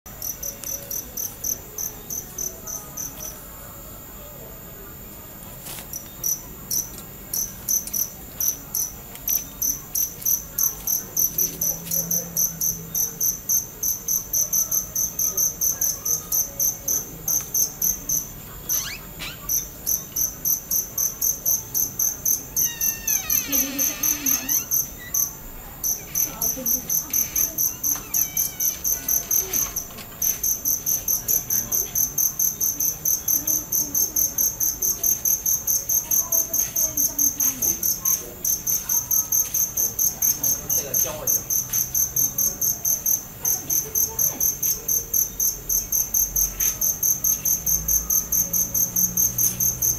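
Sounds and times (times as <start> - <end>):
cricket chirping: 0.1 - 4.0, 4.8 - 49.9.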